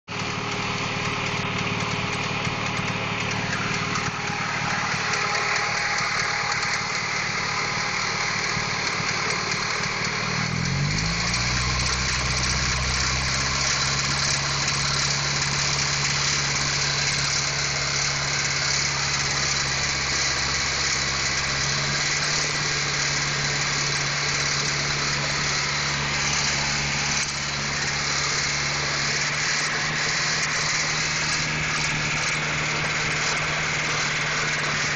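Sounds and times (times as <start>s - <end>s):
car engine idling with knock: 0.1s - 34.9s.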